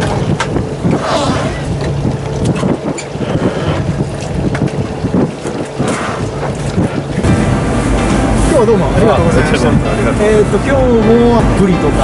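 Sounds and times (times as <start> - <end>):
boat engine running: 0.0 - 12.0
wind buffeting microphone: 0.0 - 12.0.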